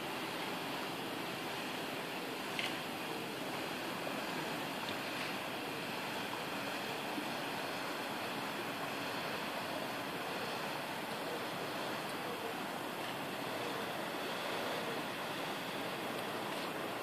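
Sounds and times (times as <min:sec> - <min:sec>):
water lapping against dock: 0:00.0 - 0:17.0.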